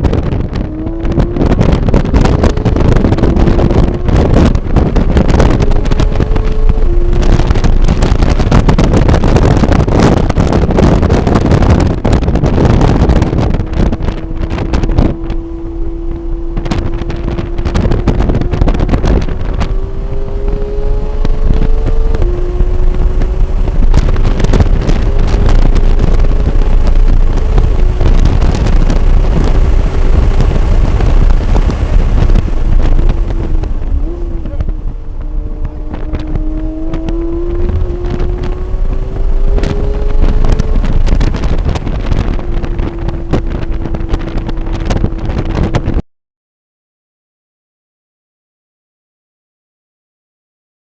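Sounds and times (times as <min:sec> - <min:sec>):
car engine revving: 0:00.0 - 0:46.0
wind and road noise: 0:00.0 - 0:46.1.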